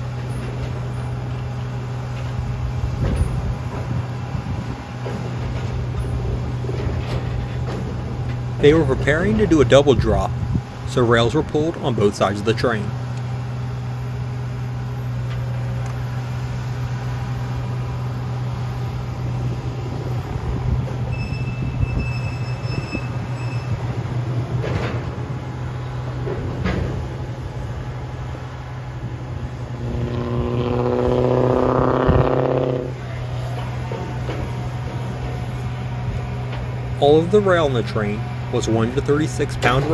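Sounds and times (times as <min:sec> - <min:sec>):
train diesel engine running: 0:00.0 - 0:39.9.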